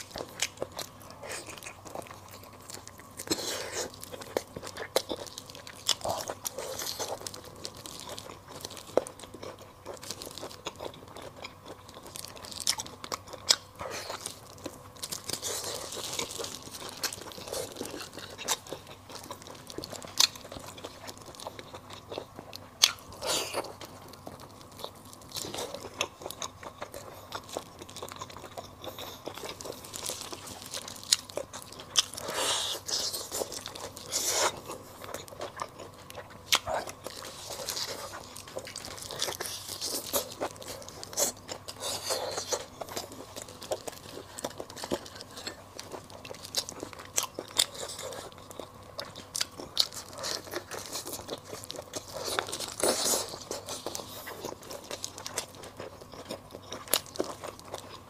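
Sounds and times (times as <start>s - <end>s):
close-miked chewing: 0.0s - 58.0s.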